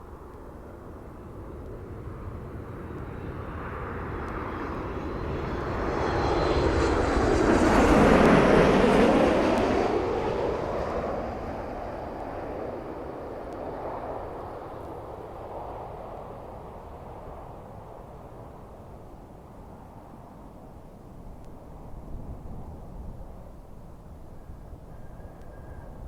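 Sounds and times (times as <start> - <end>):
jet airliner passing: 0.1 - 26.0.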